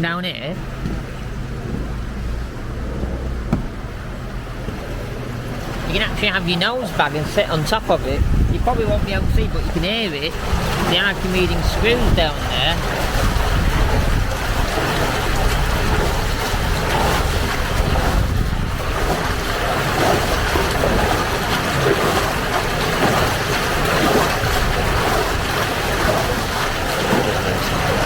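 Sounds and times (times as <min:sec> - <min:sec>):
rush of water: 0:00.3 - 0:28.0
wind buffeting microphone: 0:00.6 - 0:28.0.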